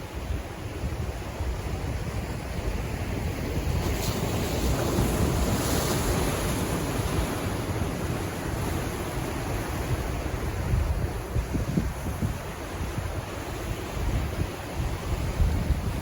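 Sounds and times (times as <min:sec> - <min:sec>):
ocean surf washing in: 0:00.0 - 0:16.0
wind buffeting microphone: 0:00.0 - 0:16.0.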